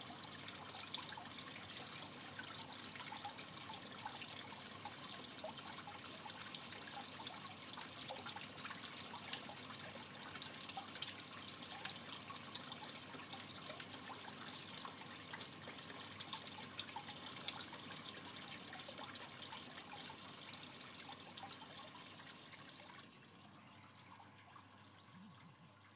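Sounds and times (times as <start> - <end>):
aquarium water trickling: 0.0 - 25.9.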